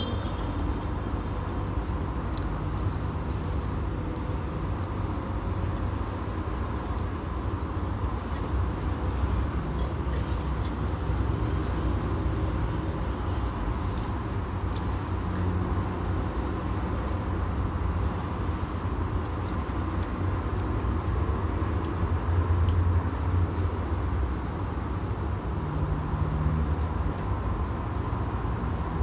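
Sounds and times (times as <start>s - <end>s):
distant city traffic rumble: 0.0s - 29.0s.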